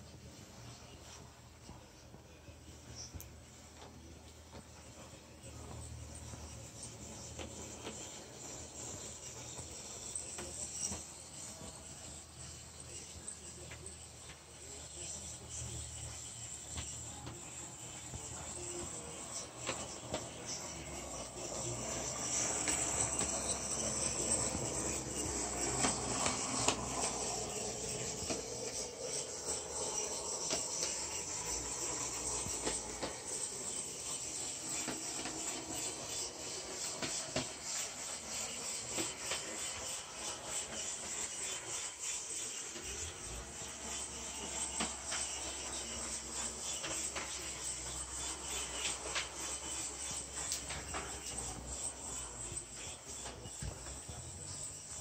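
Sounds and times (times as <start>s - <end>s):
wheels clicking on rails: 0.0s - 55.0s
small electric motor whirring: 3.0s - 55.0s.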